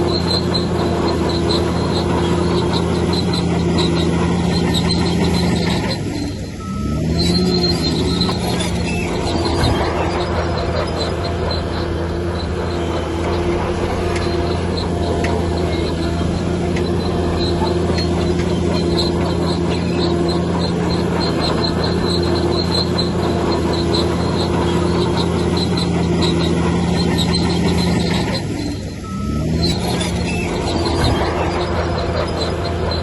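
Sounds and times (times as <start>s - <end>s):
bulldozer diesel engine running: 0.0s - 33.0s
steel tracks squeaking and clinking: 0.0s - 33.0s.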